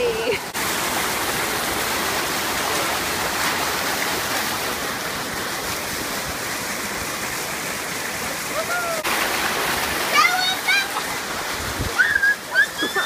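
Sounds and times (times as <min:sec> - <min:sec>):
water rushing down a slide: 0:00.0 - 0:13.0.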